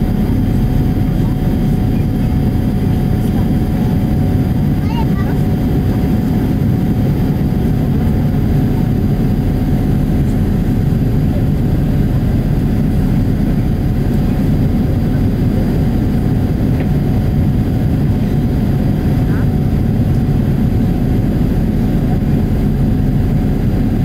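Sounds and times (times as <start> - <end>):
low airplane cabin rumble: 0.0 - 24.0.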